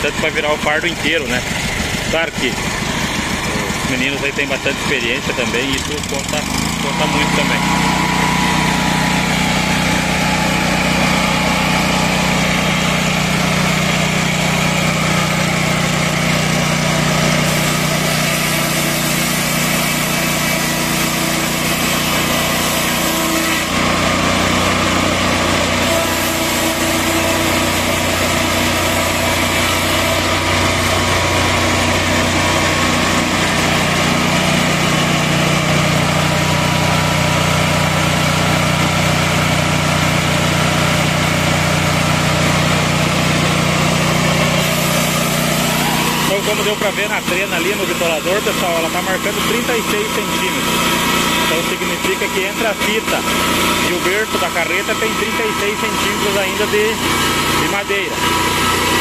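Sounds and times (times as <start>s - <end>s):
sawmill engine and band saw: 0.0s - 59.0s.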